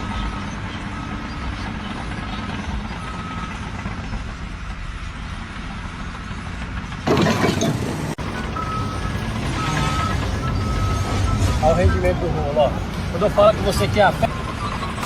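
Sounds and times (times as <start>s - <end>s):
engine running with low rumble: 0.0s - 15.0s.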